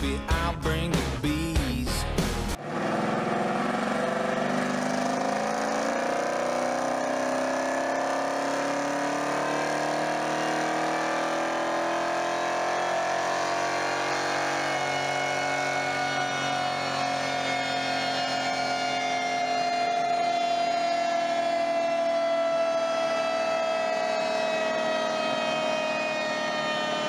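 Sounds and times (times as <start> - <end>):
race car engine on dyno: 2.6 - 27.0.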